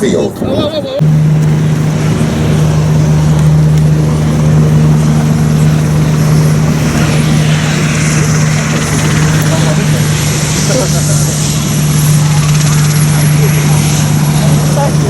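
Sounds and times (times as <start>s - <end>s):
helicopter droning: 0.1s - 15.0s.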